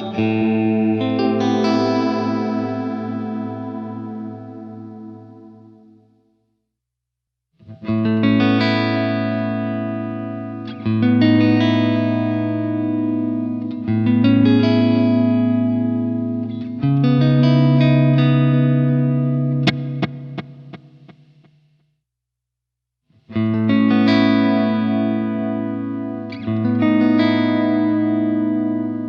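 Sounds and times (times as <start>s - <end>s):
electric guitar chords with delay: 0.0s - 6.1s, 7.8s - 21.2s, 23.4s - 29.0s.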